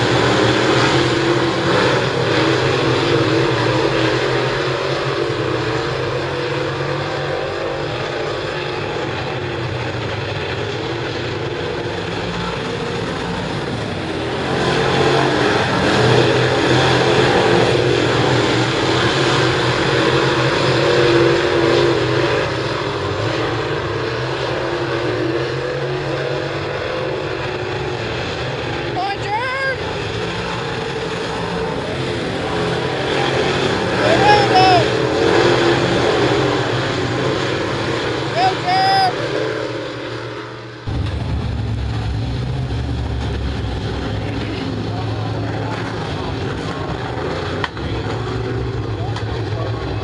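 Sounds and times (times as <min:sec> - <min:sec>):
race car engines roaring: 0:00.0 - 0:50.0.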